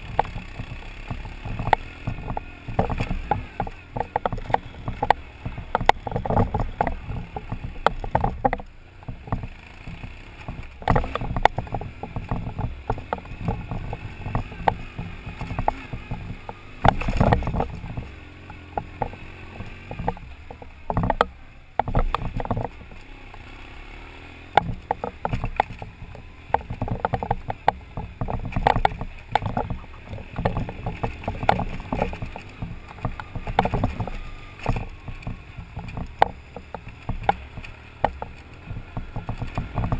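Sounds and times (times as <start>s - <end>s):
knocks and rattles: 0.0s - 23.5s, 24.4s - 39.9s
motorcycle engine rumble: 0.0s - 39.9s.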